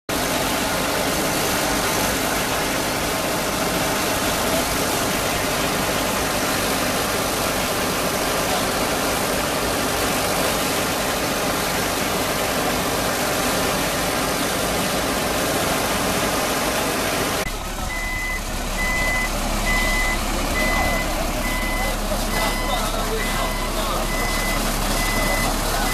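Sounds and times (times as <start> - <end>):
diesel engine hum: 0.1 - 25.9.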